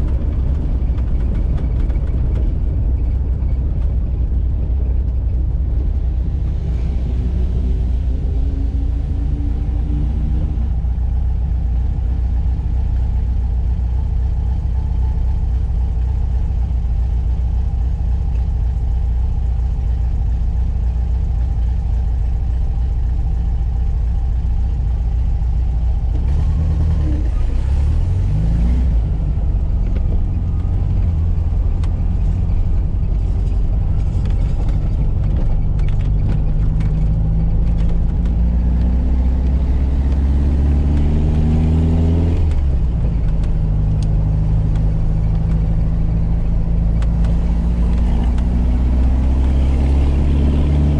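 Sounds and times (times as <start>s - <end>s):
car engine running: 0.0s - 50.9s
road rumble: 0.0s - 50.9s.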